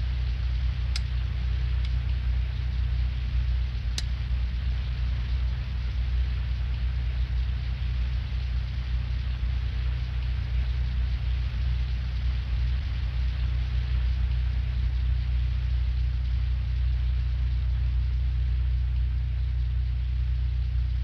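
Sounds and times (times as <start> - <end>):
low industrial rumble: 0.0 - 21.0
steady hiss: 0.0 - 21.0.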